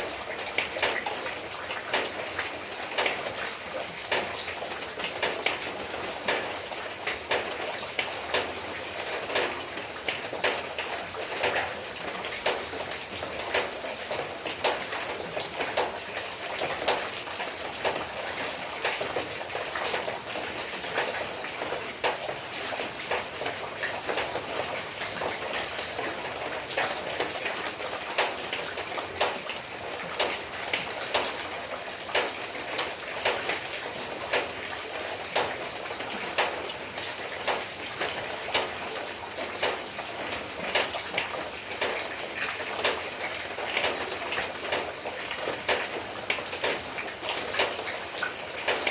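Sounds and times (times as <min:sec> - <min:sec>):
raindrops striking close by: 0:00.0 - 0:48.9.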